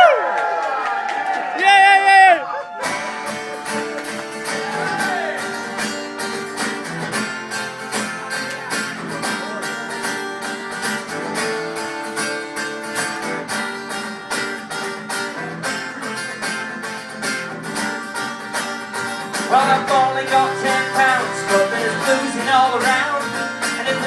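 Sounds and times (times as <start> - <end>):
strummed acoustic guitars: 2.8 - 24.0.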